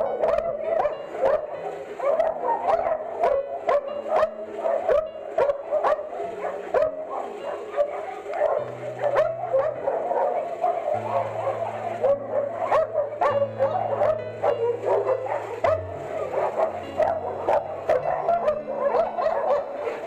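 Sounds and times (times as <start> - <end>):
dogs barking: 0.0 - 20.0
low background music: 0.0 - 20.0.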